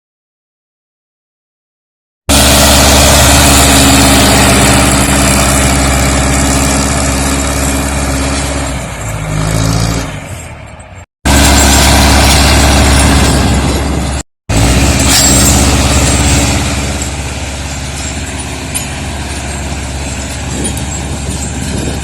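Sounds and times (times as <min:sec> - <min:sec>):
tractor diesel engine under load: 0:02.3 - 0:22.0.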